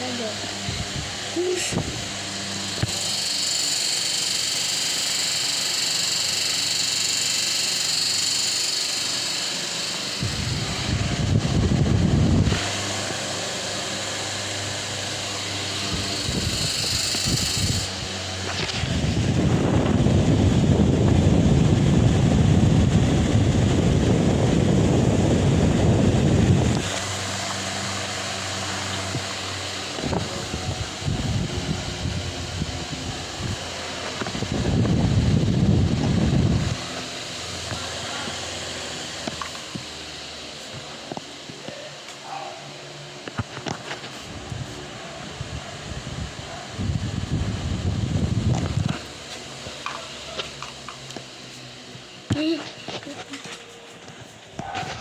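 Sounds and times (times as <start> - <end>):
fan air rush: 0.0 - 55.0
low motor hum: 0.0 - 55.0.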